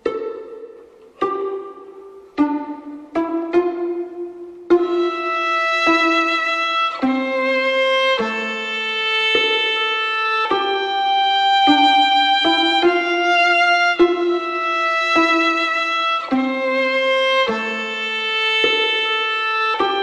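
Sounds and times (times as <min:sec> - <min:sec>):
slow instrumental music: 0:00.0 - 0:20.0.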